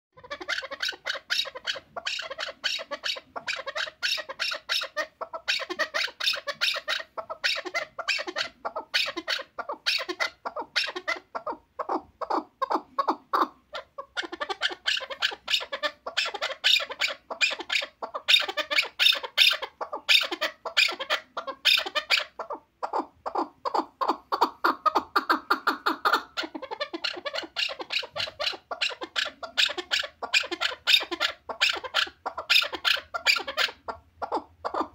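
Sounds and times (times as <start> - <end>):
partridge clucking calls: 0.1 - 34.9.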